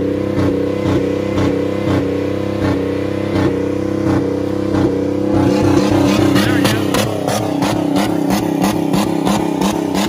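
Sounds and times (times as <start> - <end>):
car engine on rev limiter: 0.0 - 10.0.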